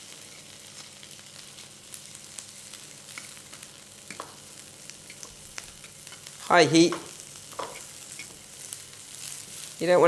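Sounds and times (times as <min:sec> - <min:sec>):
cabbage sizzling in butter: 0:00.0 - 0:10.0.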